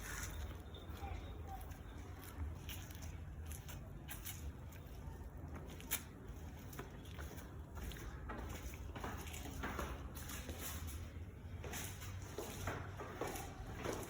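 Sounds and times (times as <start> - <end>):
footsteps on concrete: 0.0 - 14.0.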